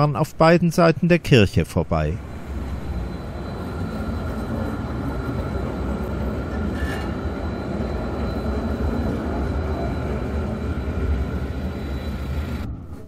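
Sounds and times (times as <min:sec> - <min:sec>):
tram wheels rumbling on rails: 0:02.1 - 0:13.0.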